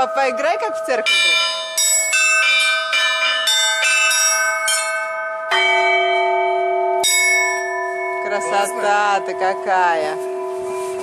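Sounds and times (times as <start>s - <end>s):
church bells pealing: 0.0s - 11.0s
deep bell strike: 0.0s - 11.0s.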